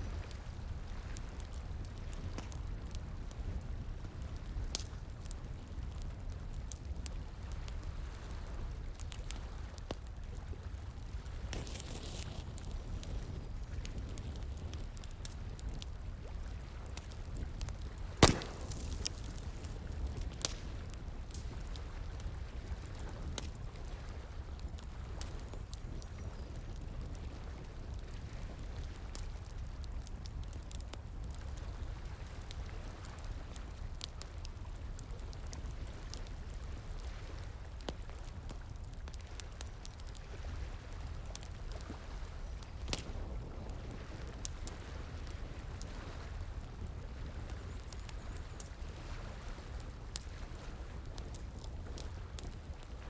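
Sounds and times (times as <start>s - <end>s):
bonfire crackling and popping: 0.0s - 53.0s.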